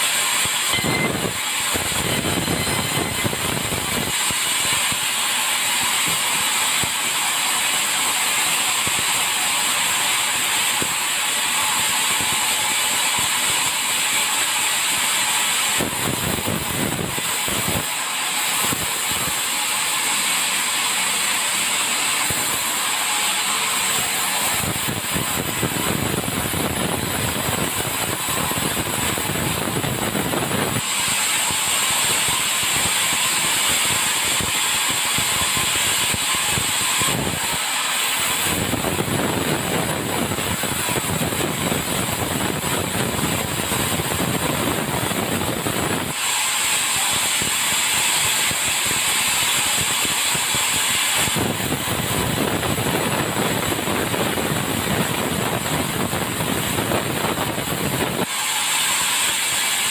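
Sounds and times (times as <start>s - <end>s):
sawmill sawing logs: 0.0s - 44.6s, 45.2s - 55.2s, 57.9s - 59.9s.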